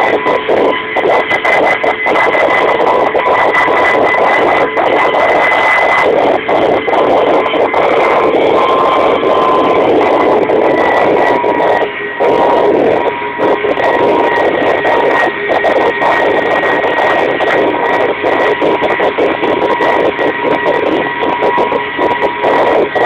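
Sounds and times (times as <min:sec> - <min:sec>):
helicopter engine drone in cabin: 0:00.0 - 0:23.0
high whine: 0:00.0 - 0:23.0.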